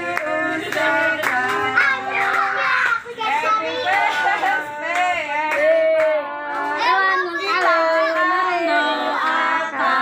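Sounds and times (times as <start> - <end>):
children singing: 0.0 - 10.0.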